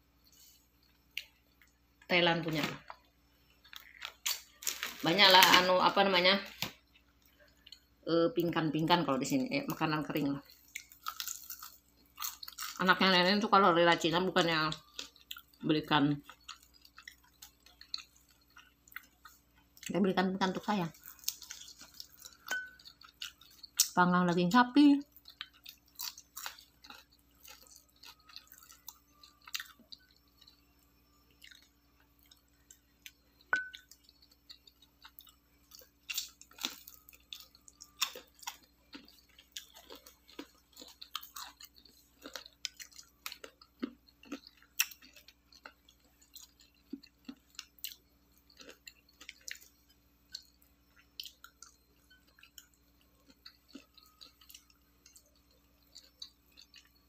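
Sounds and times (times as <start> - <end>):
low steady hum: 0.0 - 57.0
person chewing crunchy food: 2.8 - 5.7, 10.4 - 13.2, 14.4 - 20.0, 20.7 - 24.0, 25.0 - 57.0.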